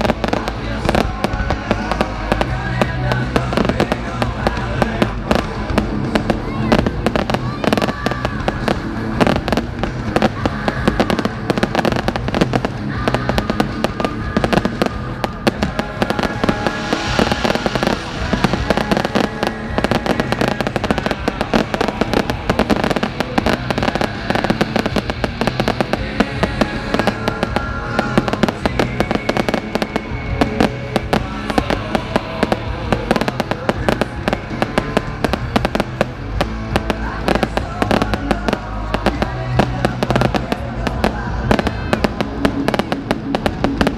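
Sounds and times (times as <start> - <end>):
fireworks bangs and crackles: 0.0 - 43.9
music playing: 0.0 - 43.9.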